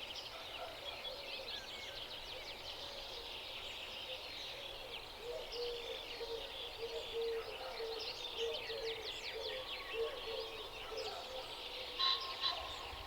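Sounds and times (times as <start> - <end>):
songbirds chirping and trilling: 0.0 - 13.0.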